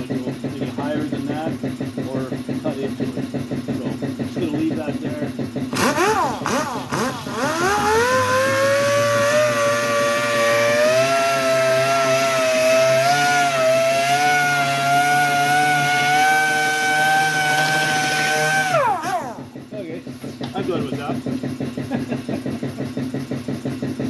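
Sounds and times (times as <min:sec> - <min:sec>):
air sander whining: 0:00.0 - 0:24.0.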